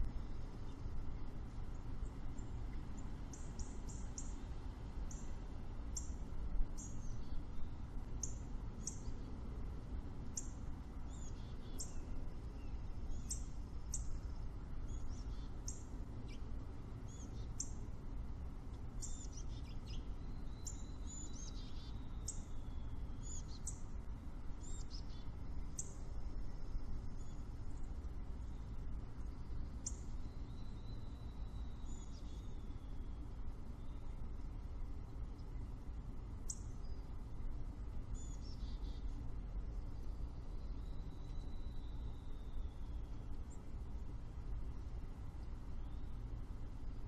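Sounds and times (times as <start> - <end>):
songbirds chirping: 0.0 - 47.0
steady low rumble: 0.0 - 47.0.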